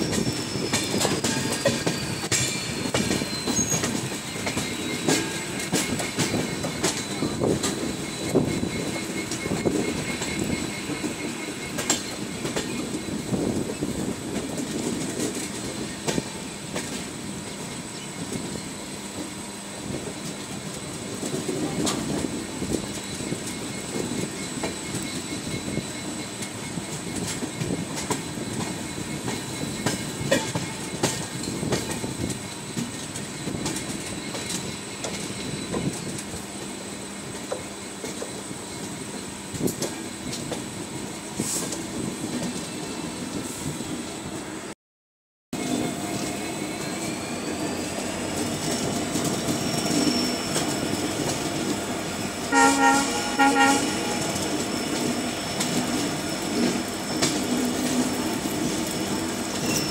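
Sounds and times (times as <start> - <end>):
train wheels rumbling on rail: 0.0 - 44.7, 45.6 - 59.9.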